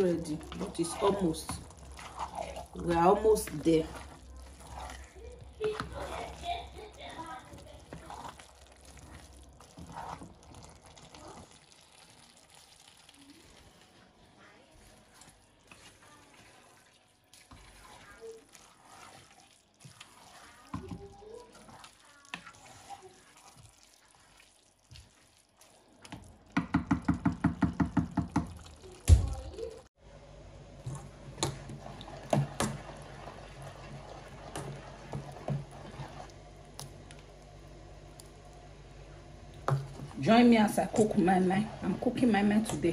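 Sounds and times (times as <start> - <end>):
wooden spoon stirring rice in pot: 0.0 - 29.8, 30.8 - 42.9.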